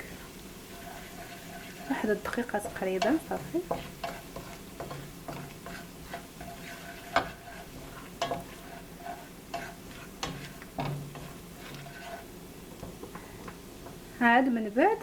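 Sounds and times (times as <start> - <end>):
spoon scraping a pot: 0.0 - 14.0
spices sizzling in oil: 0.0 - 15.0.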